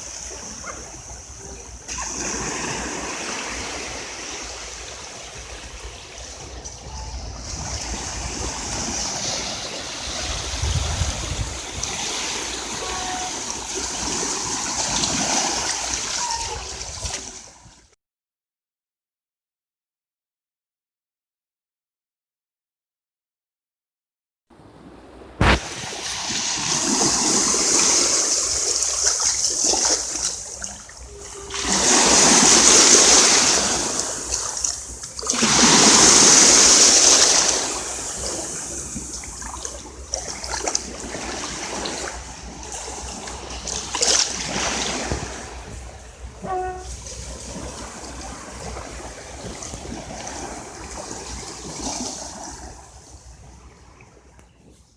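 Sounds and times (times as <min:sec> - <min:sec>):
sea waves breaking on shore: 0:00.0 - 0:17.9, 0:24.6 - 0:54.4.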